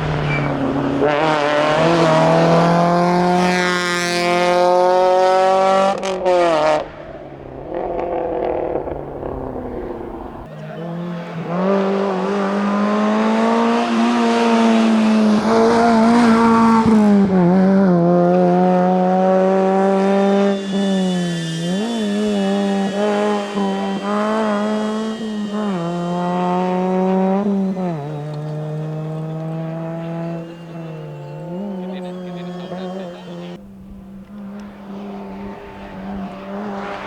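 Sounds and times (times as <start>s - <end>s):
harsh tyre noise: 0.0s - 37.0s
rally car engine revving: 0.0s - 37.0s.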